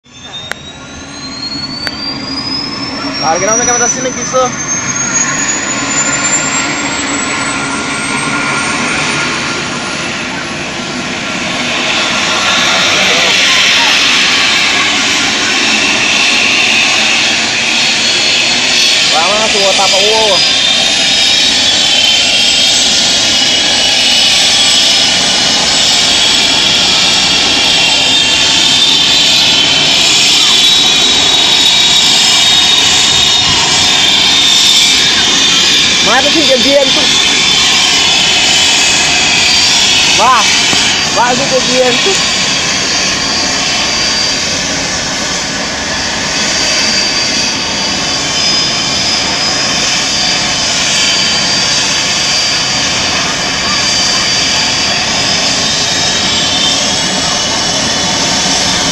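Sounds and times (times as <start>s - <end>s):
helicopter rotor rushing noise: 0.0s - 58.9s
helicopter turbine whine: 0.0s - 58.9s.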